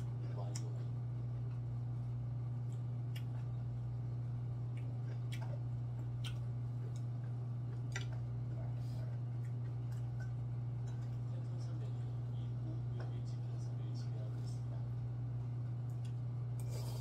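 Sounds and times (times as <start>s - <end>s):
man chewing food: 0.0s - 13.2s, 15.6s - 17.0s
low hum: 0.0s - 17.0s.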